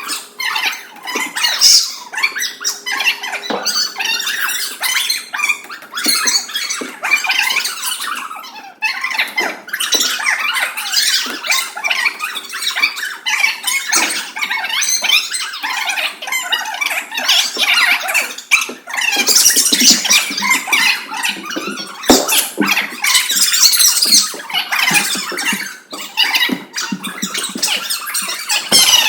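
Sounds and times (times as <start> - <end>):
children squealing and shrieking: 0.0 - 29.0.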